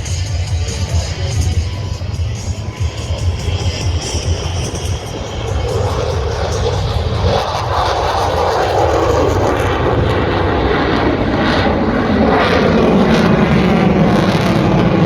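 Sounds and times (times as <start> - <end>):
jet aircraft engine roar: 0.0 - 15.0.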